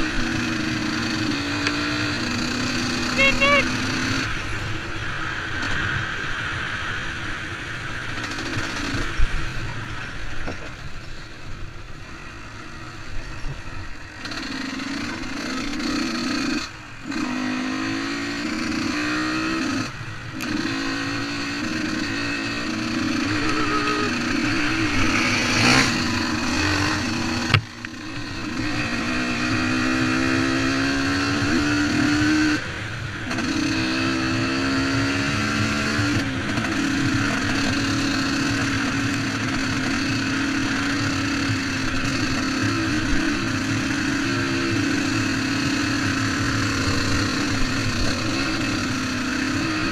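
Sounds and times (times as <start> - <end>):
motocross bike engine revving: 0.0 - 4.4, 8.1 - 9.2, 14.2 - 49.9.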